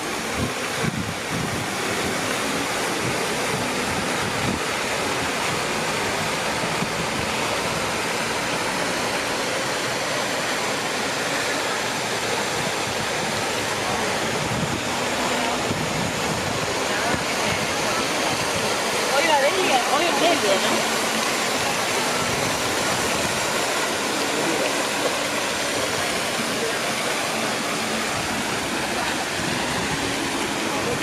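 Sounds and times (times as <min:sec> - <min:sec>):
fountain water pouring and splashing: 0:00.0 - 0:31.0.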